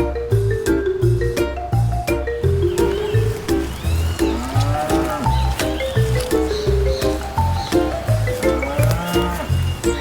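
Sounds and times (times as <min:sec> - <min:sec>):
upbeat music with xylophone melody: 0:00.0 - 0:10.0.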